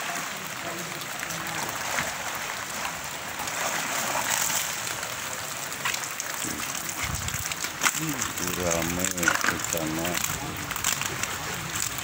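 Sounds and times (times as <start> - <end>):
rain falling on water and pavement: 0.0 - 12.0
water splashing and trickling: 0.0 - 12.0.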